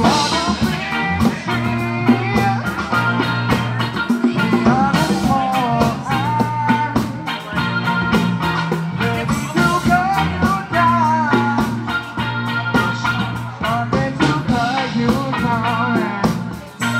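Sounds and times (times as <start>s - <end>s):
bass guitar: 0.0s - 16.9s
drum kit beat: 0.0s - 16.9s
electric guitar: 0.0s - 16.9s
person singing: 0.0s - 16.9s.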